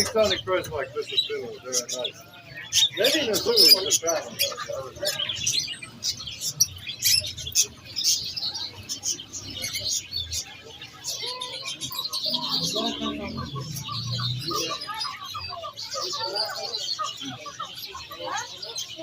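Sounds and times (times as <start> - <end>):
murmuring voices: 0.0 - 19.0
small birds chirping: 0.0 - 19.0.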